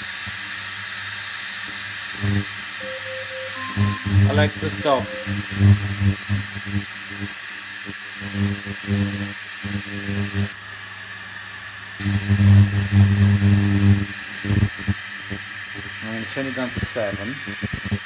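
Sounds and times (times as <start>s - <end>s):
pressure cooker hissing steam: 0.0s - 5.2s, 6.8s - 18.0s.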